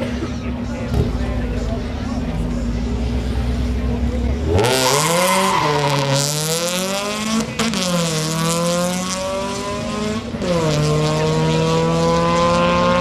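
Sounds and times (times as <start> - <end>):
drag car engine at full throttle: 0.0 - 13.0.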